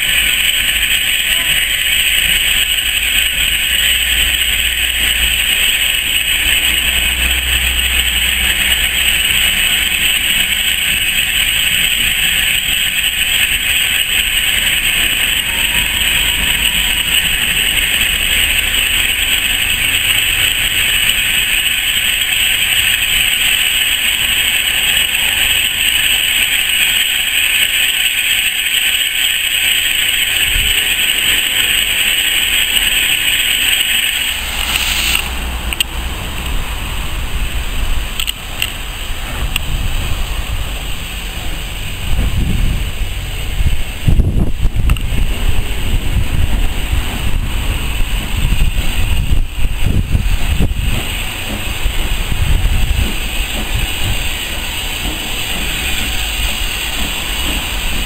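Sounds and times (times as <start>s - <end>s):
railway coaches rolling past: 0.0s - 58.0s.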